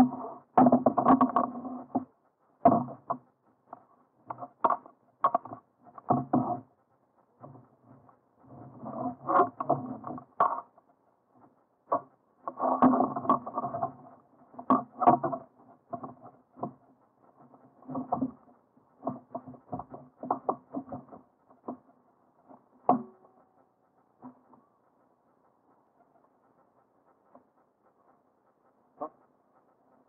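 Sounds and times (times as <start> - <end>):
gear knocking and rattling: 0.0 - 30.0.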